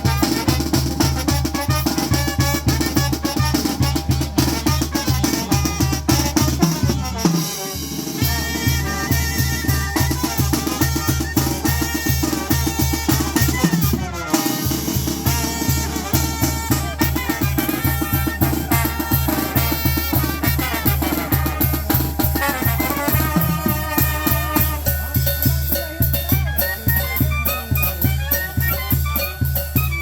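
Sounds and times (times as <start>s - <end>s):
snare drum: 0.0s - 30.0s
wind and brass melody: 0.0s - 30.0s.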